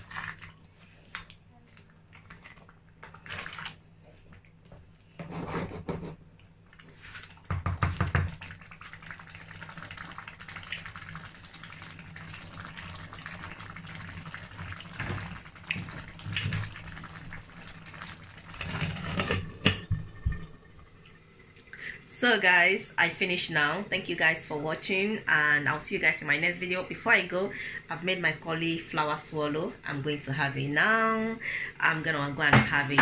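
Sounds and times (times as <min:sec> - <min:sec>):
stew simmering and bubbling: 0:00.0 - 0:33.0.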